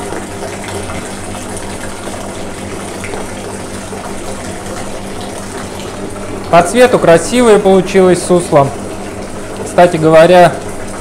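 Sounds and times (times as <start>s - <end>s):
liquid pouring into plastic bucket: 0.0s - 11.0s.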